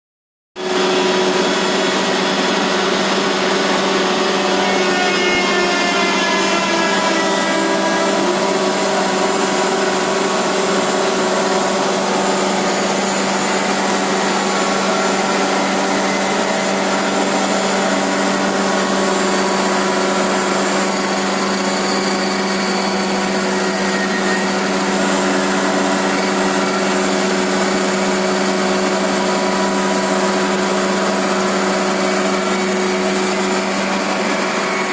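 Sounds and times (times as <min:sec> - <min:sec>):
machine whining: 0:00.6 - 0:34.9
milling machine running: 0:00.6 - 0:34.9.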